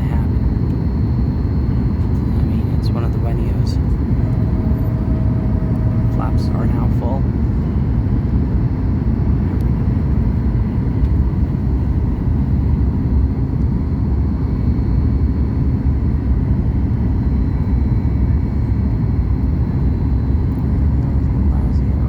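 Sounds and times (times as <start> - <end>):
airplane cabin roar: 0.0 - 22.0
faint steady whine: 0.0 - 22.0.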